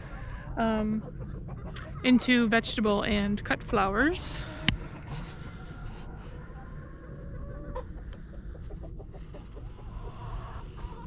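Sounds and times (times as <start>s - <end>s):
chickens clucking: 0.0s - 11.0s
steady low rumble: 0.0s - 11.0s.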